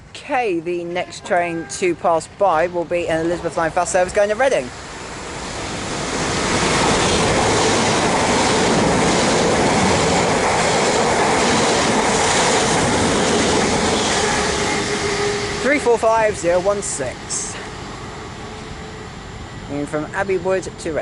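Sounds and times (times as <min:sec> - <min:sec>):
electric train passing at speed: 0:02.2 - 0:21.0.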